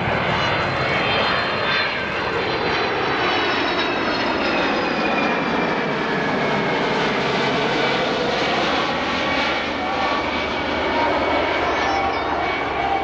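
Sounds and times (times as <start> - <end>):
jet plane flying past: 0.0 - 13.0.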